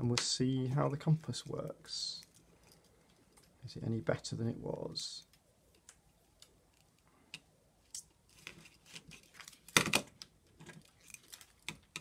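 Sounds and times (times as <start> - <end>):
wire rustling and clicking: 0.7 - 3.6, 5.2 - 12.0.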